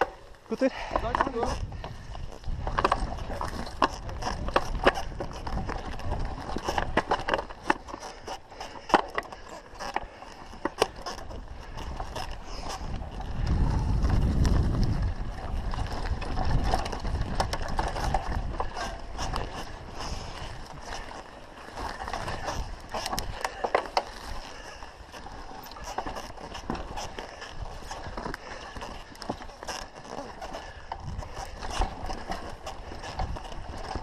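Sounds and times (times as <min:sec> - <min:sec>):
bike clicks and rattles: 0:00.0 - 0:34.0
tyre noise on dirt: 0:00.0 - 0:34.0.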